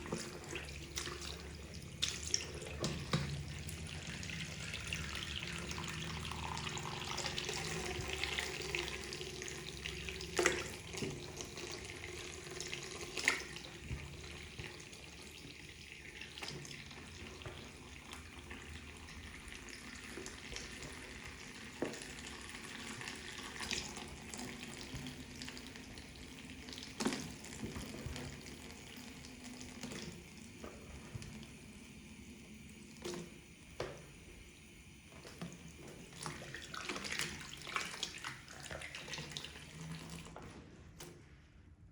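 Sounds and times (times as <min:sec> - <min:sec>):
soapy sponges squeezed in water: 0:00.0 - 0:41.5.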